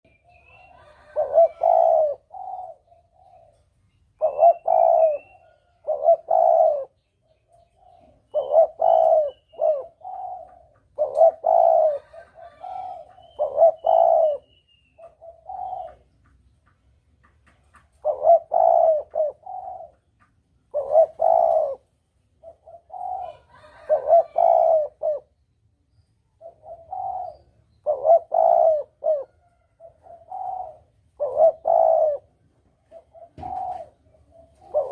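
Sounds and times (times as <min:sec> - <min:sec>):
dove cooing: 0:00.1 - 0:16.4, 0:17.6 - 0:25.4, 0:26.4 - 0:34.9.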